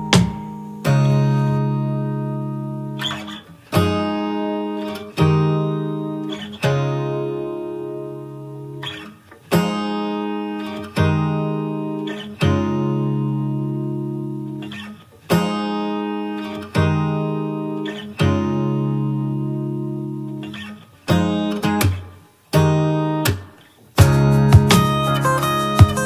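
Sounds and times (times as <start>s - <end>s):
strummed guitar chords: 0.0s - 26.0s.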